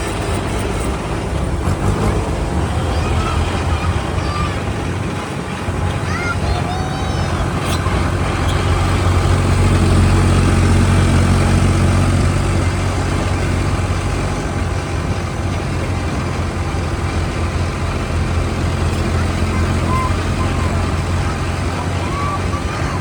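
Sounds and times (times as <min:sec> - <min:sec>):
tractor engine humming: 0:00.0 - 0:23.0.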